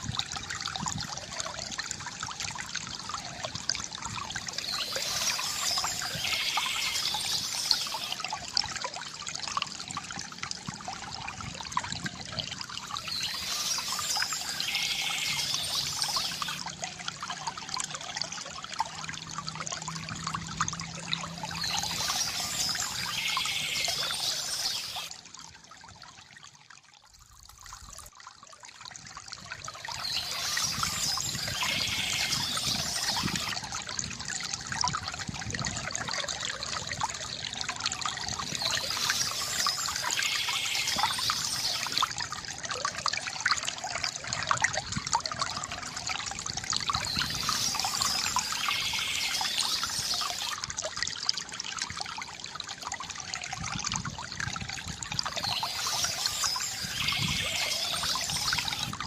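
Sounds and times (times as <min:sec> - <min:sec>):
water trickling from bamboo fountain: 0:00.0 - 0:59.0.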